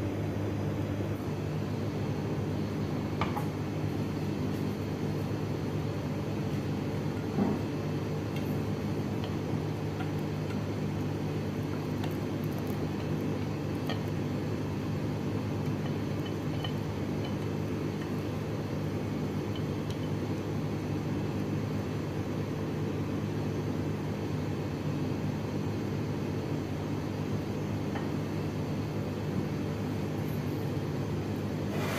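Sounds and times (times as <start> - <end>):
low mechanical hum of fan: 0.0 - 31.9.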